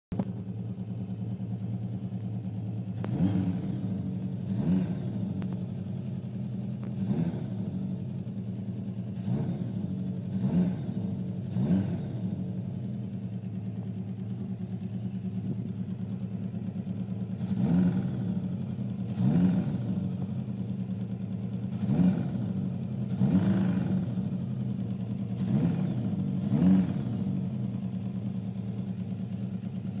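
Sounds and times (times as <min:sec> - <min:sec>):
motorcycle engine idling: 0:00.1 - 0:30.0
motorcycle engine revving: 0:01.5 - 0:30.0.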